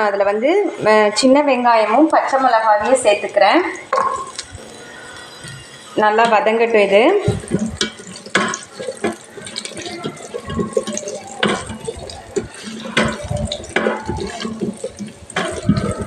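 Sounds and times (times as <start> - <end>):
onions sizzling in hot oil: 1.9 - 16.0
spatula scraping a pot: 2.3 - 16.0.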